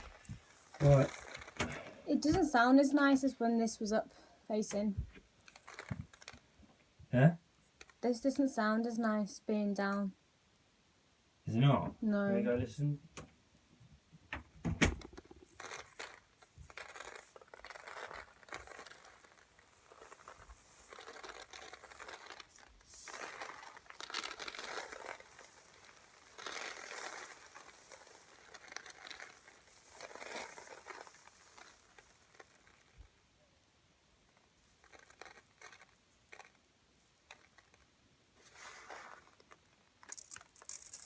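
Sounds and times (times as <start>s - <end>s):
soft crackling rain patter: 0.0s - 41.0s.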